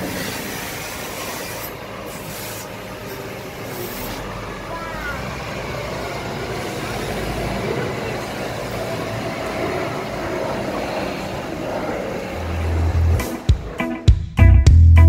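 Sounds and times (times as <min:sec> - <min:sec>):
heavy truck engine and road noise: 0:00.0 - 0:14.0
street traffic: 0:00.0 - 0:14.4.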